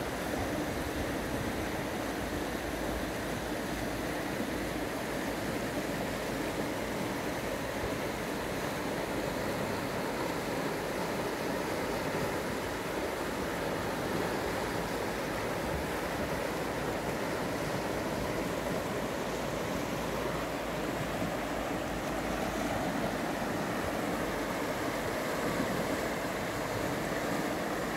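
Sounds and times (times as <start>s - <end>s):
river rushing over rocks: 0.0s - 27.9s.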